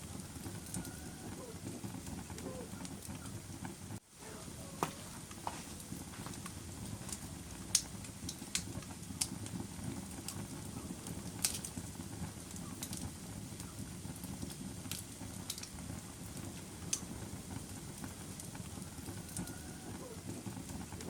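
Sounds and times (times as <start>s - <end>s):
fire flame rushing: 0.0s - 21.0s
wood fire crackles and pops: 0.0s - 21.0s.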